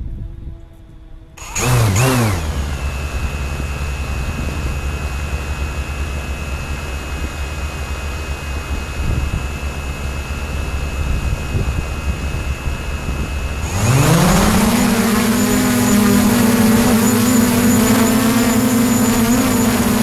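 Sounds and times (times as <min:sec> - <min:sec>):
quadcopter motors whining: 0:01.4 - 0:20.0.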